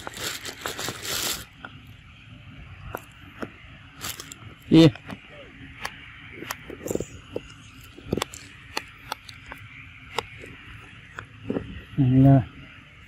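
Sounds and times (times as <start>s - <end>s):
forest background hiss: 0.0s - 13.0s.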